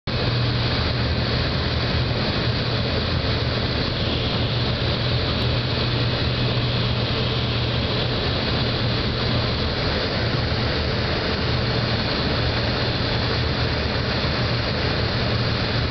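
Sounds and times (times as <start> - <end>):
propeller aircraft engine drone: 0.0 - 15.9.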